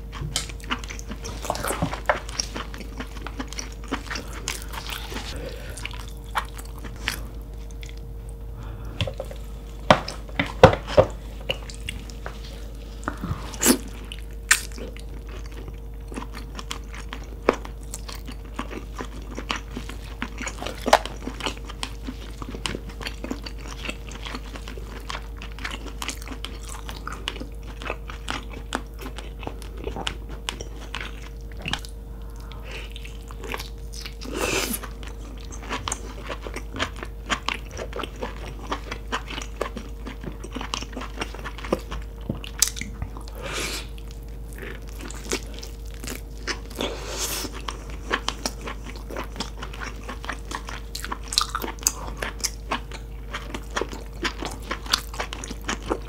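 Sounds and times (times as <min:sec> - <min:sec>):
biting and chewing: 0:00.0 - 0:08.1, 0:09.0 - 0:56.0
faint steady hum: 0:00.0 - 0:56.0.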